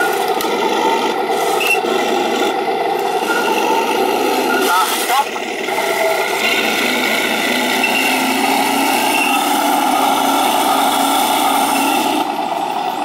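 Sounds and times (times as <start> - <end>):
model tank drive whining: 0.0 - 13.0.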